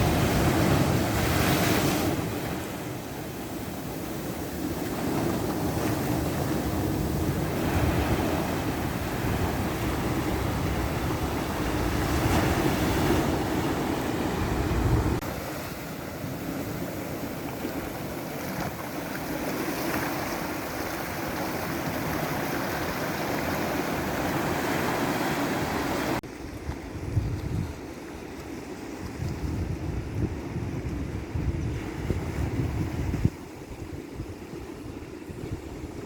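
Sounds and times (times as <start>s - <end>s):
wind rumbling on microphone: 0.0s - 15.4s, 16.3s - 36.0s
ocean waves washing on shore: 0.0s - 36.0s.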